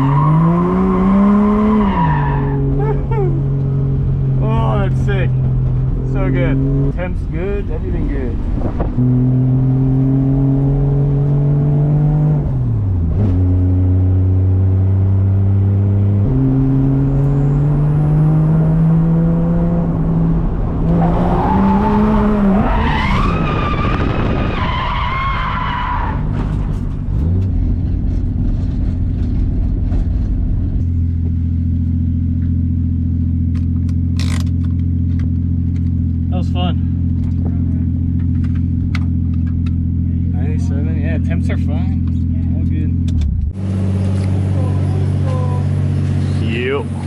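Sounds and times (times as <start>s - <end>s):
tyres skidding: 0.0s - 11.5s, 16.2s - 47.0s
car engine revving: 0.0s - 47.0s.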